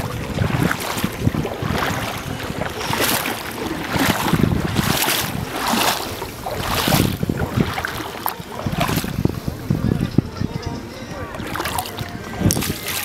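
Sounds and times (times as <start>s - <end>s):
sea water splashing: 0.0s - 13.0s
wind rumbling on microphone: 0.0s - 13.0s.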